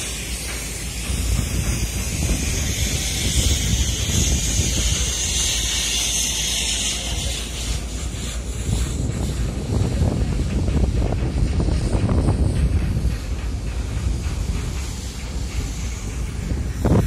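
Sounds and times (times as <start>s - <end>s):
wind buffeting microphone: 0.0s - 5.7s, 8.4s - 17.0s
steady hiss: 0.0s - 17.0s.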